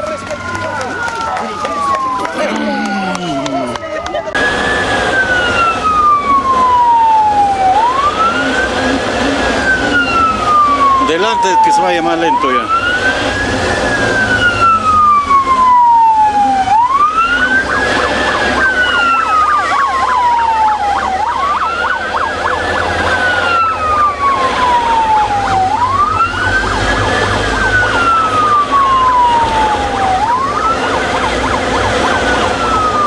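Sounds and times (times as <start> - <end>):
vehicle siren wailing: 0.0 - 33.0.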